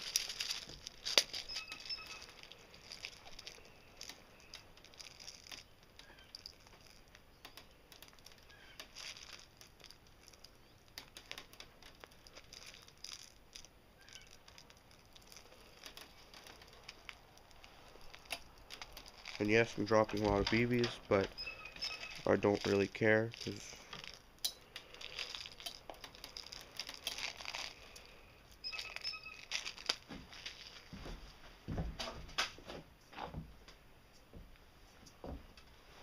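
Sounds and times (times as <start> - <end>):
plastic pellets clicking and rattling: 0.0 - 31.0.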